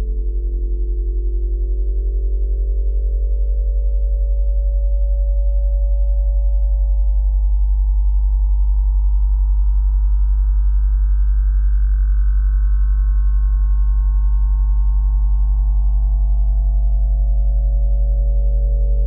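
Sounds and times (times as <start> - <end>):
pulsing low sine hum: 0.0 - 19.0.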